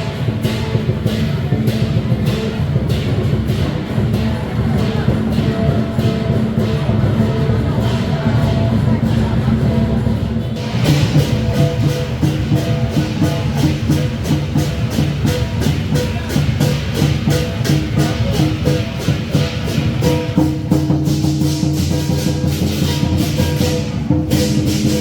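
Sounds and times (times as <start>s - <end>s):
percussion band playing: 0.0s - 25.0s.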